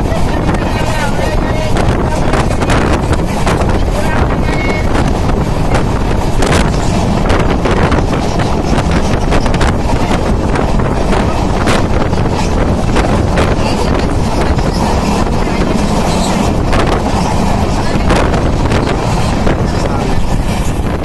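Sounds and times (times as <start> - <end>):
train wheels rumbling on track: 0.0 - 21.0
wind buffeting microphone: 0.0 - 21.0.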